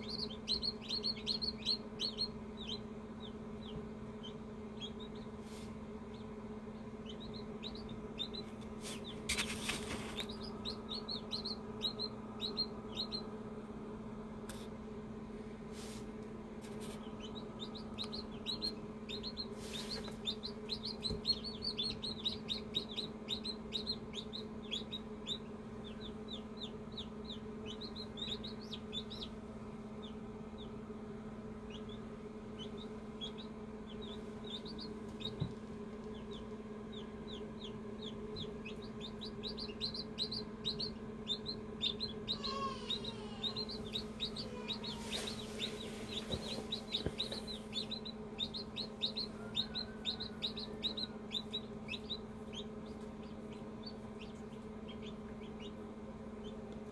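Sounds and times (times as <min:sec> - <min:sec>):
chicks peeping: 0:00.0 - 0:13.5, 0:16.6 - 0:56.9
incubator fan hum: 0:00.0 - 0:56.9.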